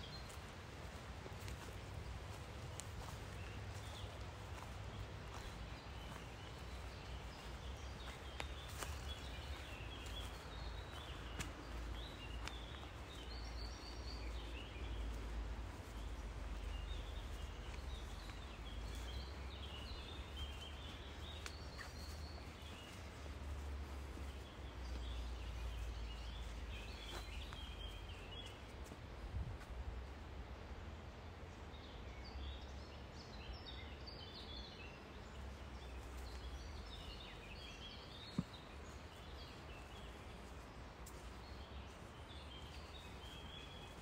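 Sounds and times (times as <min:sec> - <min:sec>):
small birds chirping: 0:00.0 - 0:30.2, 0:31.8 - 0:44.0
low rumble and hiss: 0:00.0 - 0:44.0.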